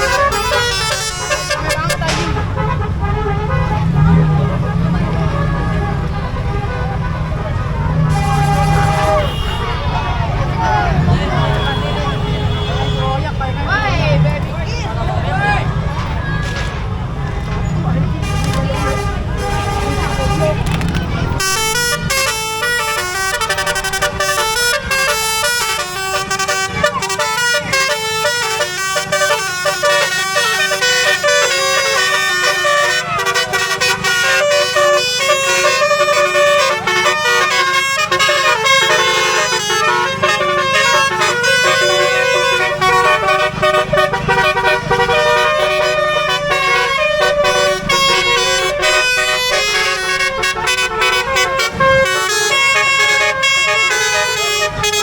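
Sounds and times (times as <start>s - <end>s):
multi-tone musical bus horns: 0.0s - 55.0s.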